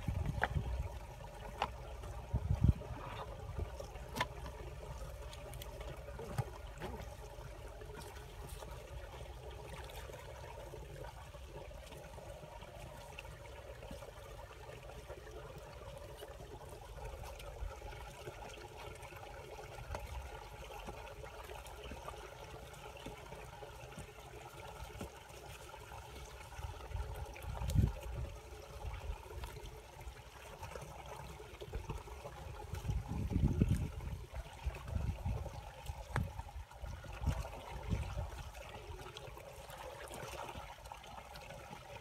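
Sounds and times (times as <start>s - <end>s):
water trickling: 0.0s - 42.0s.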